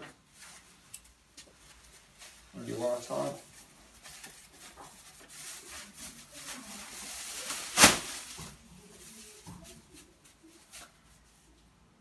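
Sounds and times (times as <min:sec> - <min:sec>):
plastic apron rustling: 0:00.0 - 0:11.7.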